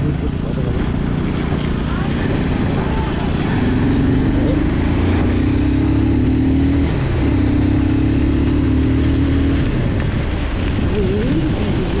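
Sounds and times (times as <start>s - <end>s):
broad rushing noise: 0.0s - 12.0s
motorcycle engine running: 0.0s - 12.0s.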